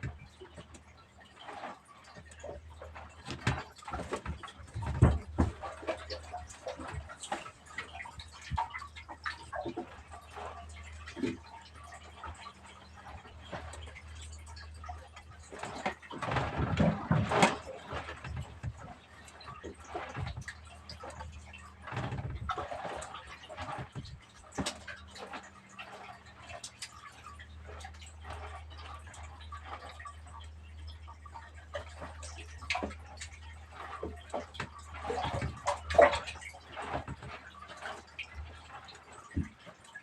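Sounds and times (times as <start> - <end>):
low steady hum: 0.0 - 40.0
water splashing and dripping: 0.0 - 40.0.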